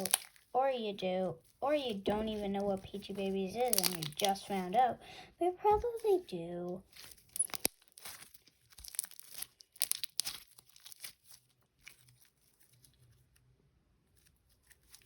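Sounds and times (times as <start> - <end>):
plastic container crinkling: 0.0 - 0.6, 1.4 - 5.0, 5.6 - 13.4, 14.1 - 15.0.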